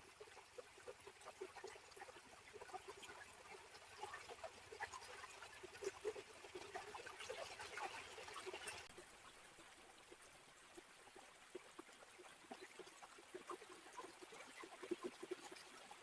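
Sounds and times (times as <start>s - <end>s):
stream trickling: 0.0s - 16.0s.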